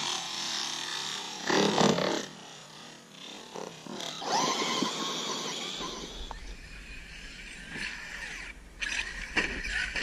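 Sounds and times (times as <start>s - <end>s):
toy car motor whining: 0.0s - 10.0s.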